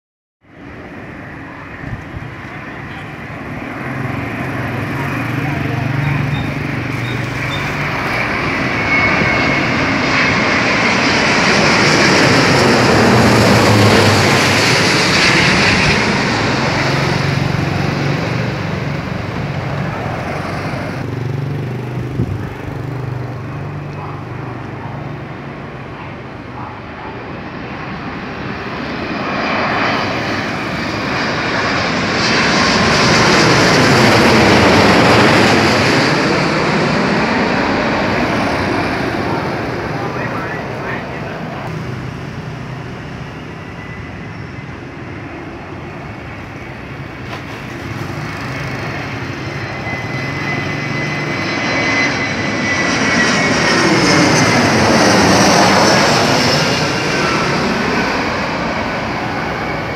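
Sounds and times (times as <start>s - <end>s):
jet airliners flying overhead: 0.4s - 59.9s.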